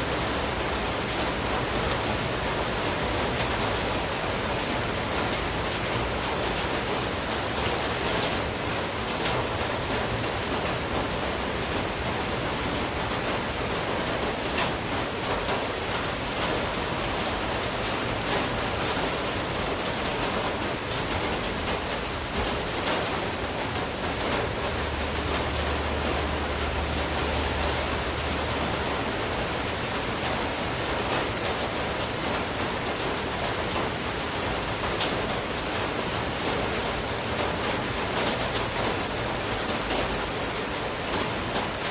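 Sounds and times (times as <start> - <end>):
rain falling steadily: 0.0 - 41.9.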